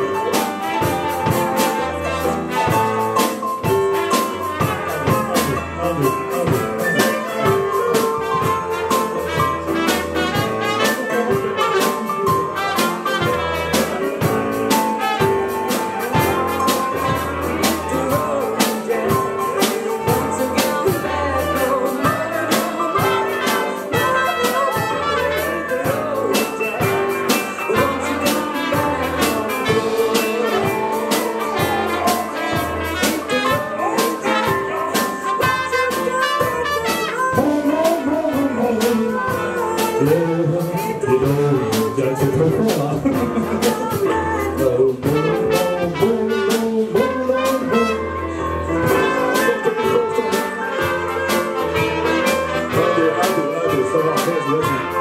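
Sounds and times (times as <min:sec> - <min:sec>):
saxophone playing: 0:00.0 - 0:42.2, 0:43.0 - 0:55.0
trumpets playing: 0:00.0 - 0:44.4, 0:45.0 - 0:55.0
drum kit steady beat: 0:00.0 - 0:55.0.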